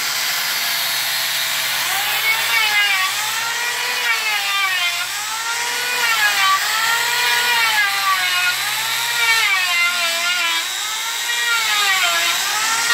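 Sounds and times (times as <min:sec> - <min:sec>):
orbital sander sanding wood: 0:00.0 - 0:12.9.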